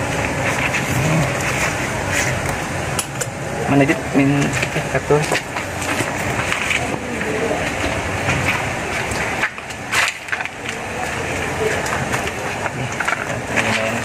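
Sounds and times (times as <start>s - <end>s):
leaves rustling and crackling: 0.0s - 3.1s, 3.8s - 14.0s.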